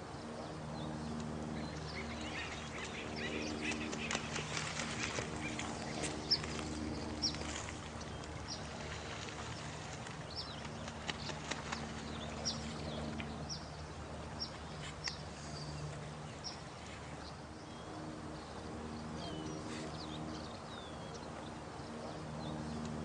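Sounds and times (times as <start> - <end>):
low steady drone: 0.0 - 23.0.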